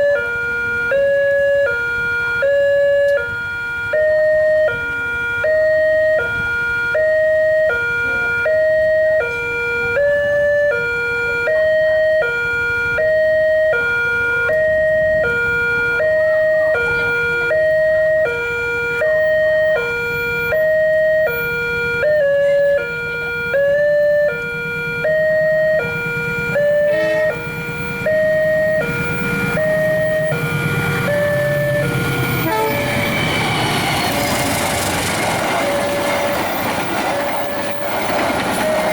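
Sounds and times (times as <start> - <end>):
level crossing warning siren: 0.0 - 38.9.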